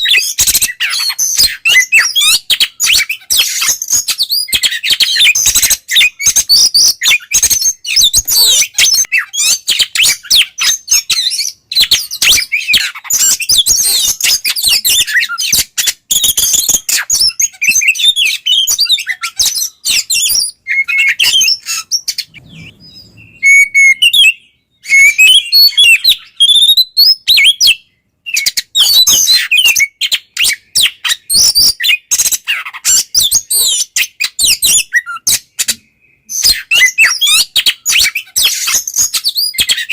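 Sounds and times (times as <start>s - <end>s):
bird song whistling: 0.0s - 39.9s.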